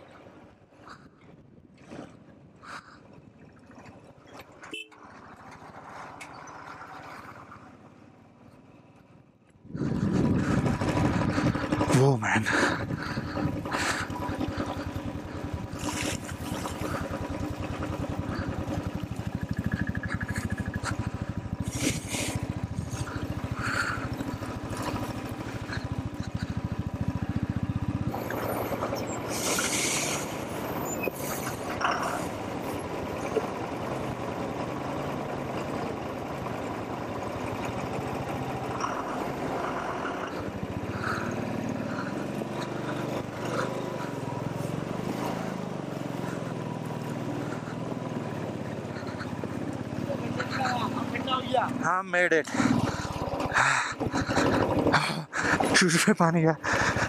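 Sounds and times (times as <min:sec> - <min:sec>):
motorcycle engine running: 0:04.5 - 0:57.0.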